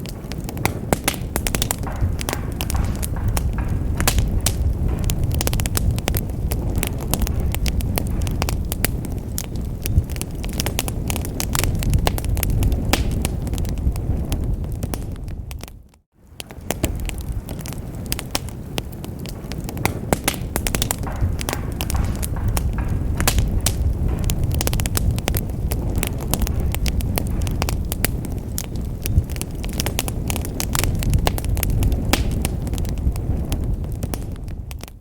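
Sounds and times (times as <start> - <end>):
logs crackling and popping: 0.0 - 35.0
low rumble of flames: 0.0 - 35.0.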